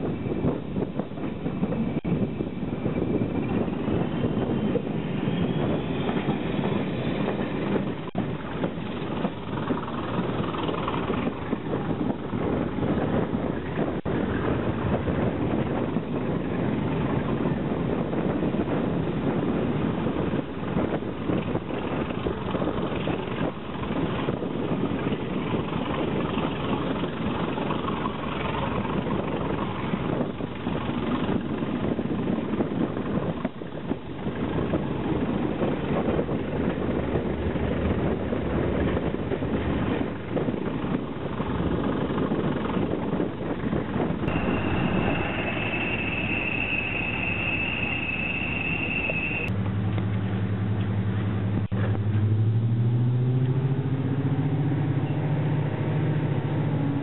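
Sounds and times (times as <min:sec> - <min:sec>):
wheels on rails: 0:00.0 - 0:52.5
diesel locomotive engine: 0:00.0 - 0:57.0.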